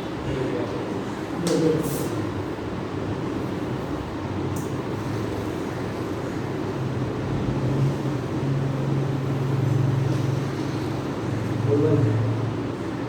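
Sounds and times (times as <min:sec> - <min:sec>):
background rumble and hiss: 0:00.0 - 0:13.0.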